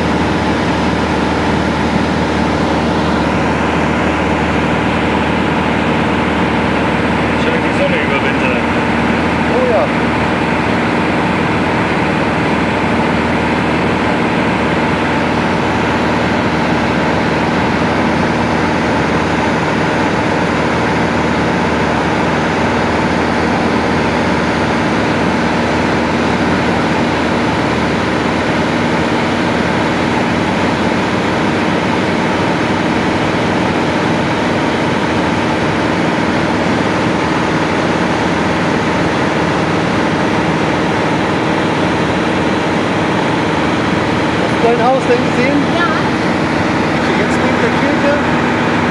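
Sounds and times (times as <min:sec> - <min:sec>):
aircraft engine and propeller droning: 0:00.0 - 0:48.9.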